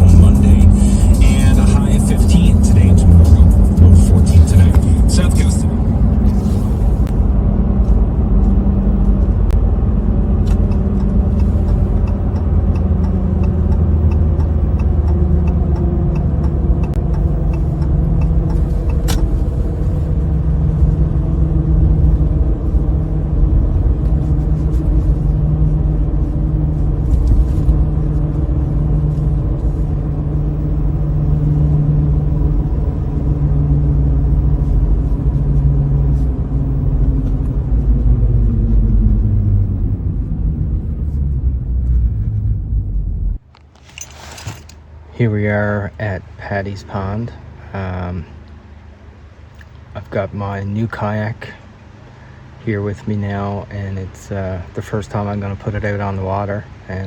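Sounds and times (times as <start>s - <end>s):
truck engine and road drone: 0.0s - 57.0s.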